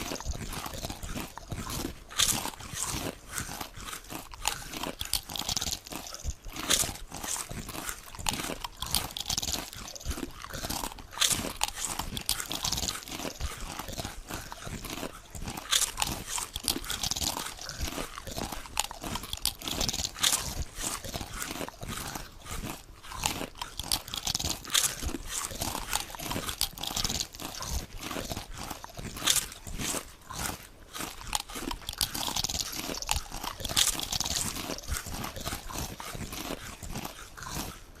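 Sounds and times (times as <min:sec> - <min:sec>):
potato chips crunching: 0:00.0 - 0:38.0.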